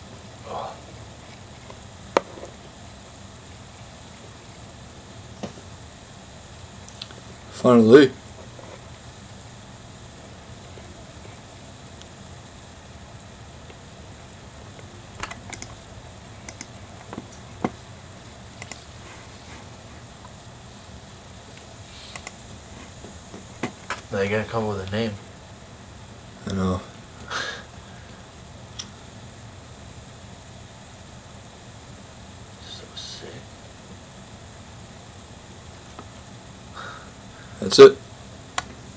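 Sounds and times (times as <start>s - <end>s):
even hiss: 0.0s - 38.9s
steady background noise: 0.0s - 38.9s.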